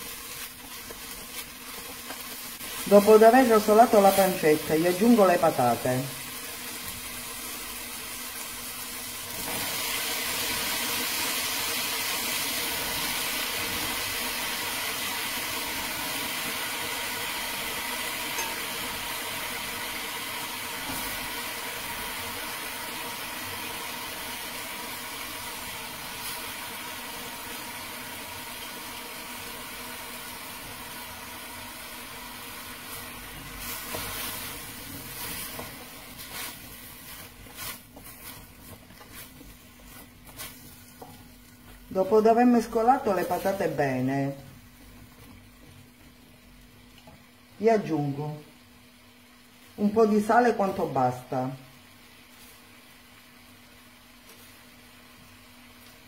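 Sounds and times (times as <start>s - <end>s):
potatoes sizzling in hot oil: 0.0s - 56.0s.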